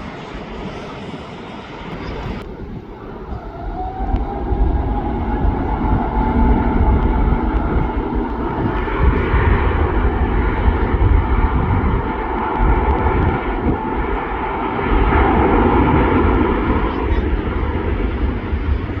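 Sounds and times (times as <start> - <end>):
jet engines running loud: 0.0 - 19.0.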